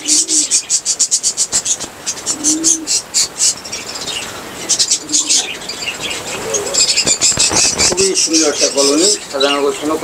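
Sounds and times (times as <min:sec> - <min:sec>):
budgerigars chirping: 0:00.0 - 0:10.0.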